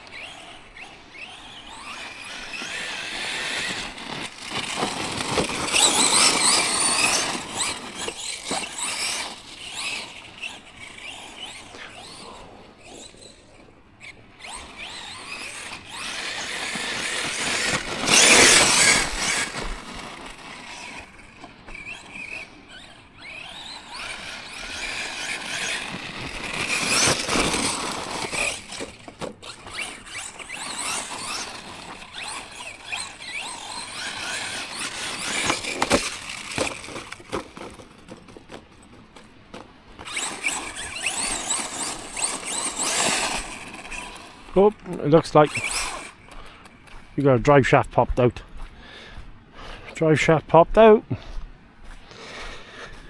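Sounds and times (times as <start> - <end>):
rc truck motor whining: 0.0 - 47.7.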